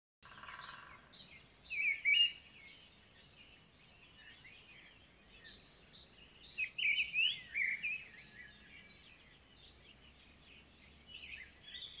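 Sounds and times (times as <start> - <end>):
birds chirping and twittering: 0.2 - 12.0.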